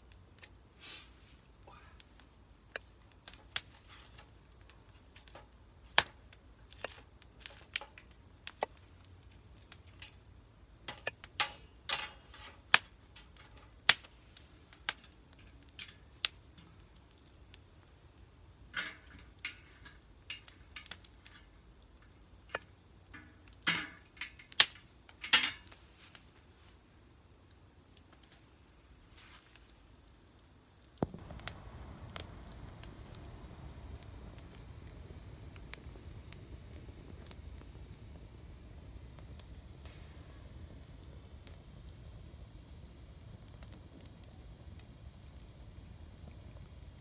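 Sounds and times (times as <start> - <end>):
sharp pops from fire: 0.0 - 0.8, 1.5 - 26.6, 27.4 - 47.0
wood fire crackling: 0.0 - 47.0.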